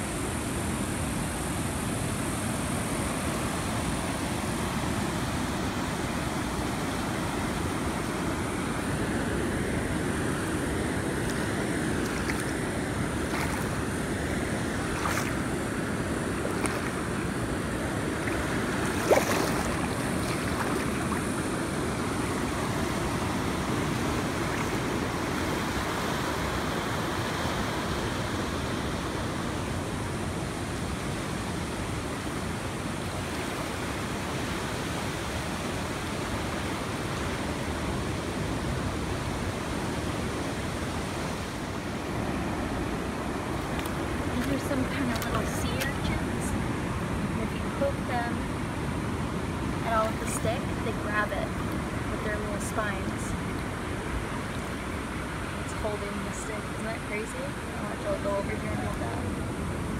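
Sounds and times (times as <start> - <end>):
ocean surf on sandy beach: 0.0 - 59.9.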